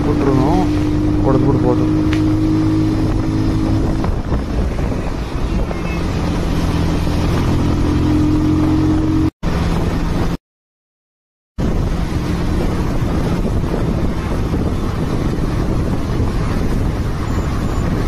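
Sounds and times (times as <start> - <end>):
wind rush on microphone: 0.0 - 10.4, 11.6 - 18.0.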